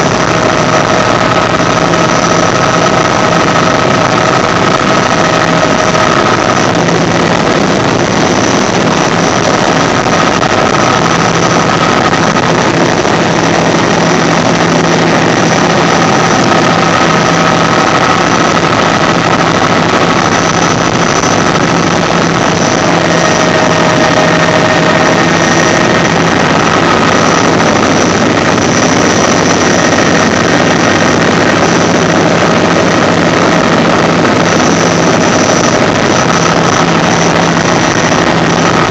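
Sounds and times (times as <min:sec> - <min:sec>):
helicopter rotor noise: 0:00.0 - 0:38.9
turbine engine whine: 0:00.0 - 0:38.9.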